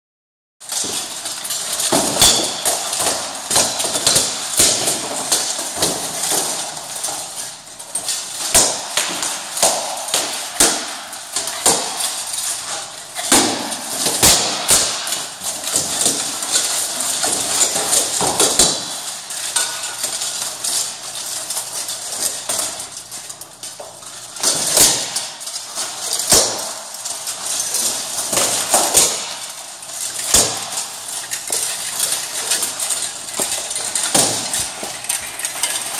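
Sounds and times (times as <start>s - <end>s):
armour rattling: 0.6s - 35.9s
weapons clanking on armour: 0.6s - 35.9s.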